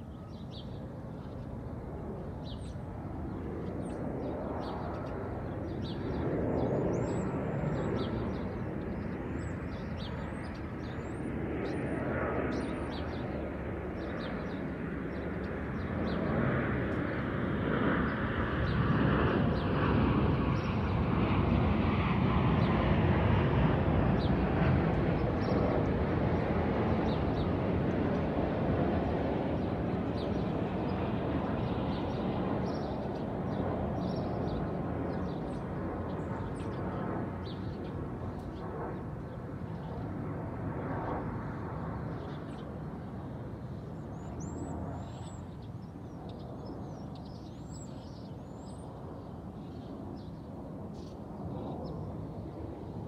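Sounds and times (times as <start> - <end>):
birds chirping: 0.0 - 17.3, 24.1 - 40.2, 41.4 - 53.0
airplane passing overhead: 0.0 - 53.0.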